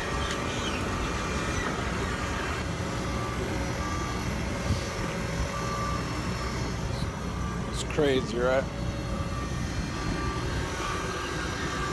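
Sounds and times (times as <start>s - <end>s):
truck engine rumbling: 0.0s - 11.9s
truck reversing alarm beeps: 0.0s - 11.9s.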